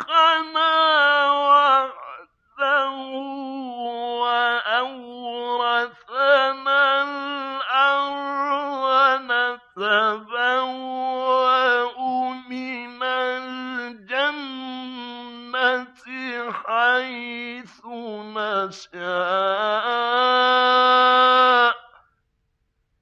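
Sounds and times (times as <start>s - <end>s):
man reciting melodically: 0.0s - 22.1s.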